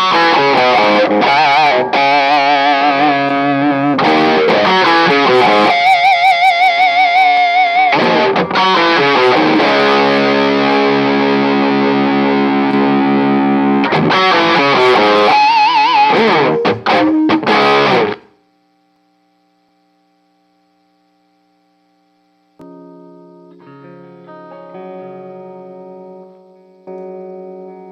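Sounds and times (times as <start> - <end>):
overdriven electric guitar: 0.0 - 18.4, 22.6 - 27.9.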